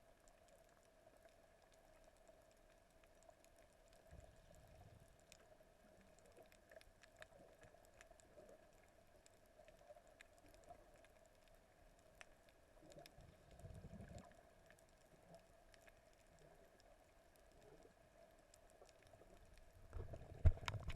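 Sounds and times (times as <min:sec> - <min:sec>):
underwater clicks and crackle: 0:00.0 - 0:20.9.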